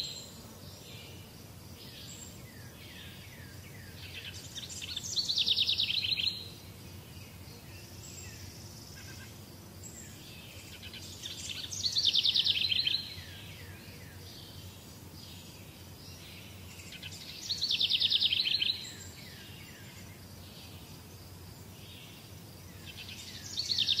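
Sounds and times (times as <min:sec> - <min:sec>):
faint bird chirps: 0:00.0 - 0:01.2, 0:01.8 - 0:21.0, 0:21.8 - 0:24.0.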